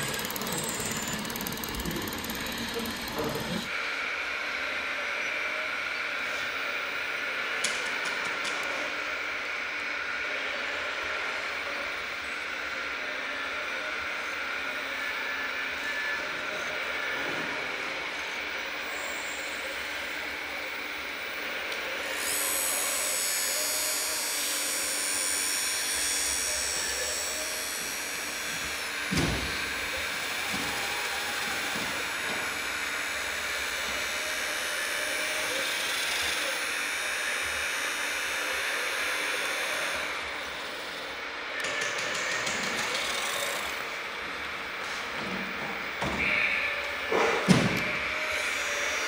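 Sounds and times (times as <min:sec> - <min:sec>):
hydraulic pump whining: 0:00.0 - 0:49.0.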